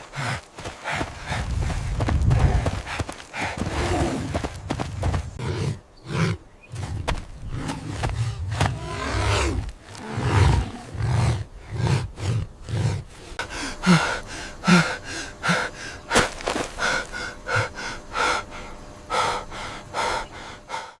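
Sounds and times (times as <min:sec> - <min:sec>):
animal heavy rapid breathing: 0:00.0 - 0:21.0.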